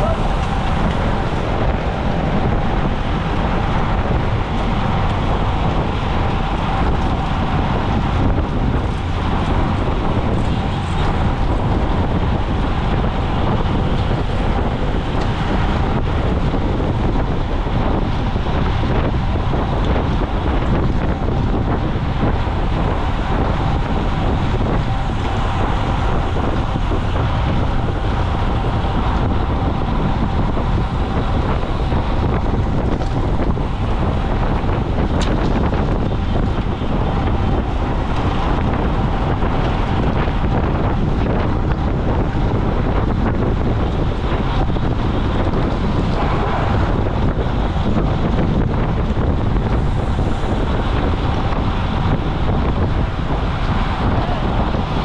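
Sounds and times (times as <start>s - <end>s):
road and tyre noise: 0.0s - 55.0s
wind rush on microphone: 0.0s - 55.0s.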